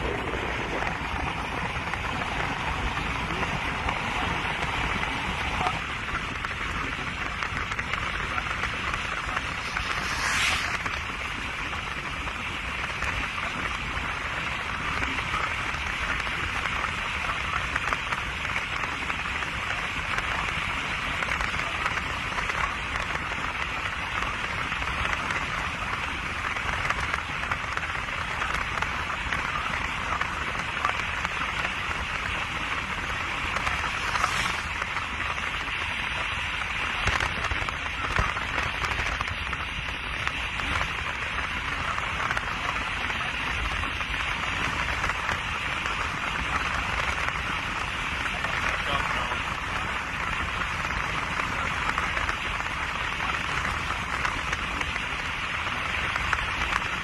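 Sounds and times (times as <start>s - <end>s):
faint crackles: 0.0s - 57.0s
rushing noise inside moving car: 0.0s - 57.0s.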